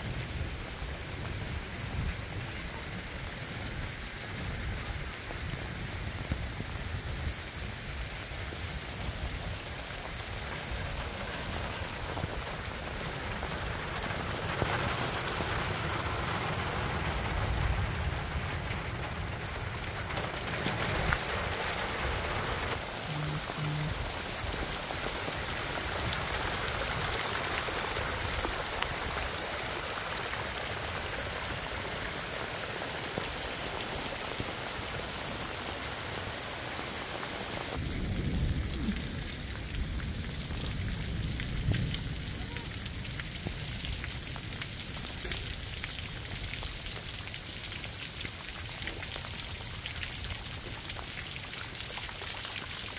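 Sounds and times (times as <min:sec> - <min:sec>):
heavy rain hissing: 0:00.0 - 0:52.6.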